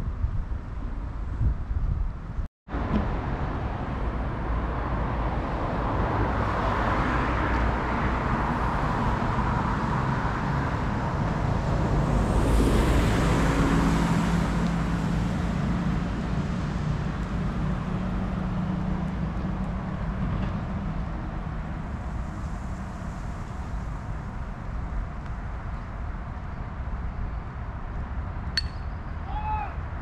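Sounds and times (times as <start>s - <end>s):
vehicle engine hum: 2.7s - 29.0s
road traffic noise: 2.7s - 30.0s.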